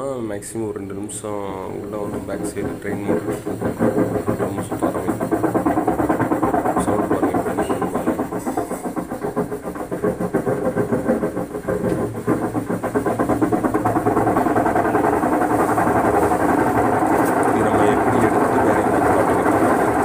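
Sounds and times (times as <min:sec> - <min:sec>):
steady hum: 0:00.0 - 0:20.0
washing machine rattling drone: 0:00.0 - 0:20.0.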